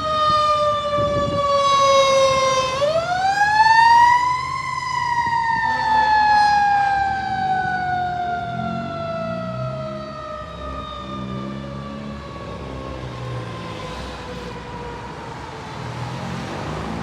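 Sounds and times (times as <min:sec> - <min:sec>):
fire engine siren winding down: 0:00.0 - 0:17.0
truck engine and road noise: 0:00.0 - 0:17.0.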